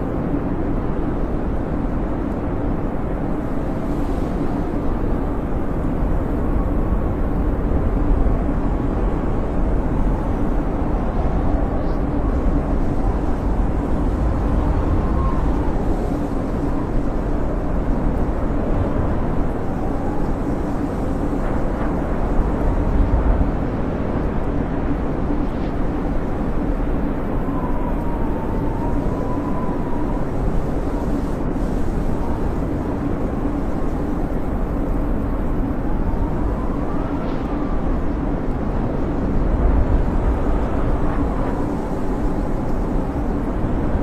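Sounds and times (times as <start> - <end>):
blizzard wind howling: 0.0 - 44.0.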